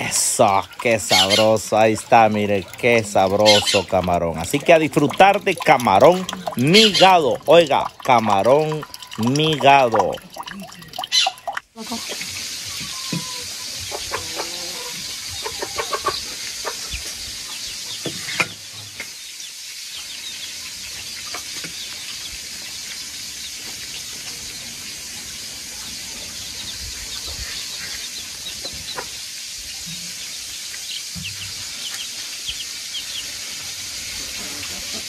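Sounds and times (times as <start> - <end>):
chickens clucking: 0.0 - 10.2, 10.9 - 19.2, 20.9 - 35.0.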